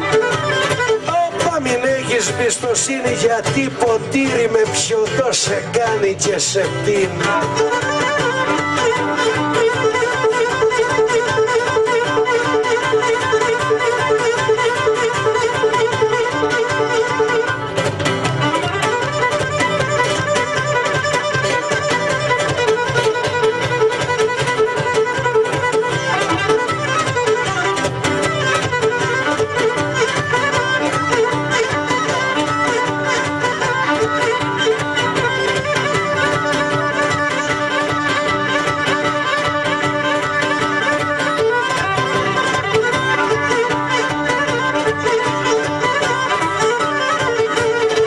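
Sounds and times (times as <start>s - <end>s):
percussion beat: 0.0s - 48.0s
strummed lute and guitar: 0.0s - 48.0s
bowed lyra melody: 7.2s - 48.0s.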